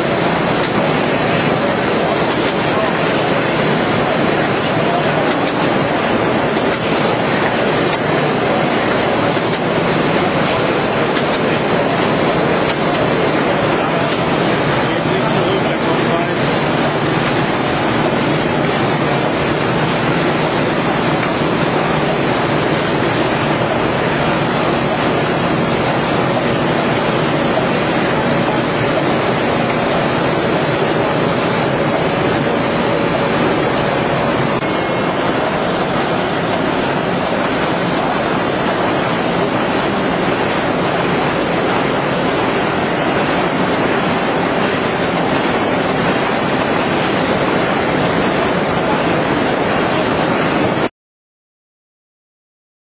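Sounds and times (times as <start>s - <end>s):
steady dense machine noise: 0.0s - 50.9s.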